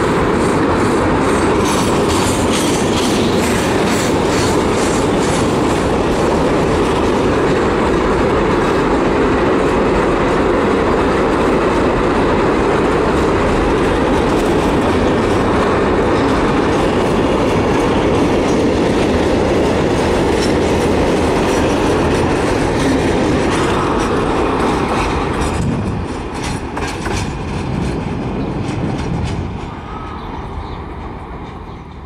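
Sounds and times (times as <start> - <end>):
freight train wheels clacking: 0.0 - 32.0.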